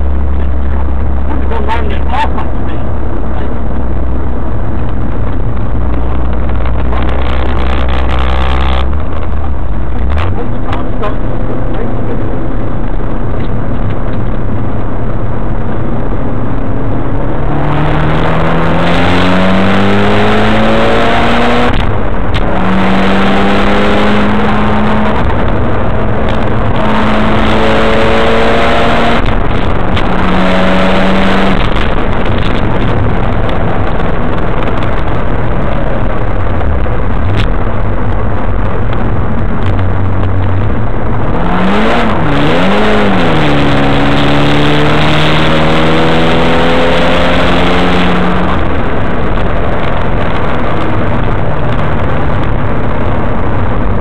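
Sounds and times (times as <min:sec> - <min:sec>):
car engine accelerating: 0:00.0 - 0:54.0
road and wind noise: 0:00.0 - 0:54.0.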